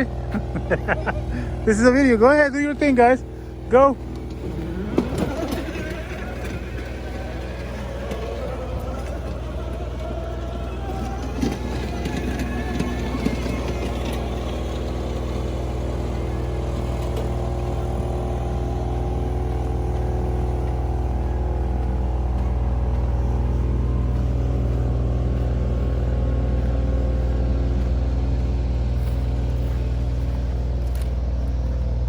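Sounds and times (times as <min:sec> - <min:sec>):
vehicle motor humming: 0:00.0 - 0:32.0.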